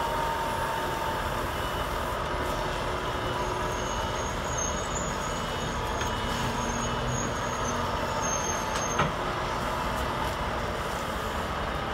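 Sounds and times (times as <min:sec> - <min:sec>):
heavy truck engine and road noise: 0:00.0 - 0:11.9.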